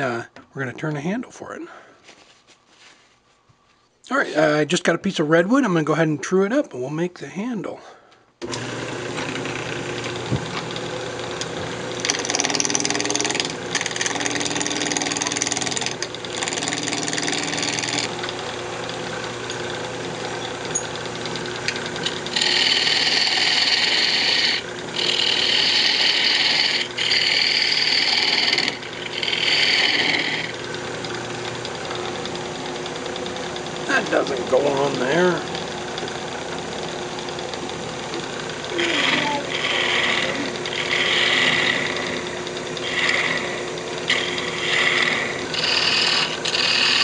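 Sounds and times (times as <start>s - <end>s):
turning tool cutting wood: 8.4s - 47.0s
wood lathe running: 8.4s - 47.0s.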